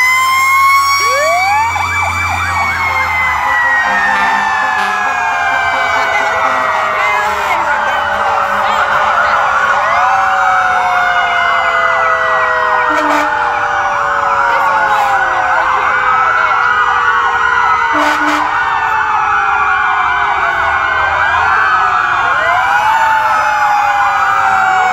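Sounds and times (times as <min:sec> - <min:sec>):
fire truck sirens wailing: 0:00.0 - 0:24.9.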